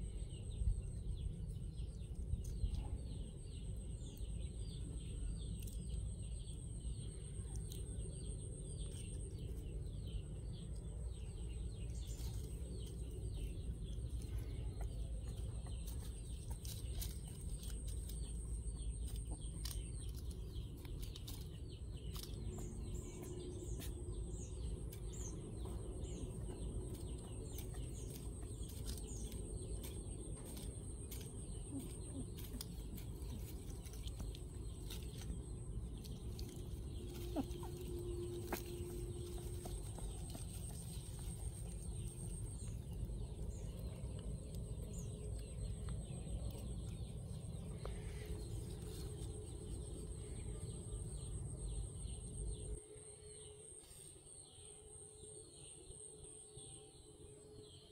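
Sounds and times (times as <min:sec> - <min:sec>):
steady low rumble: 0:00.0 - 0:53.1
birds chirping: 0:00.0 - 0:57.9.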